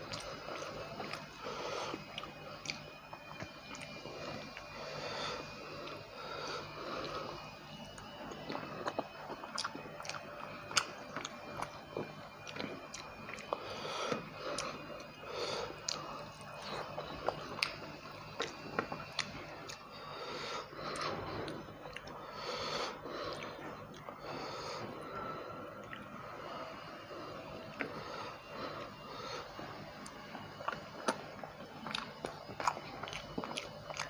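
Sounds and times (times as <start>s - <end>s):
person breathing: 0.0s - 3.0s, 4.0s - 11.8s, 13.1s - 31.5s
person chewing wetly: 0.0s - 34.0s.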